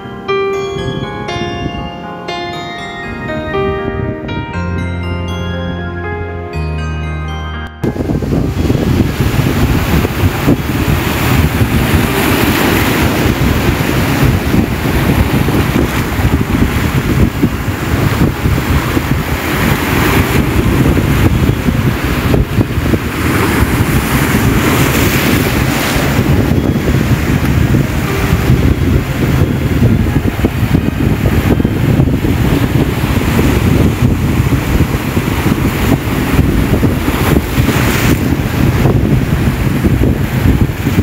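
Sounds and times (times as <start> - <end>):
wind buffeting microphone: 7.8 - 41.0
ocean surf breaking on rocks: 7.9 - 41.0.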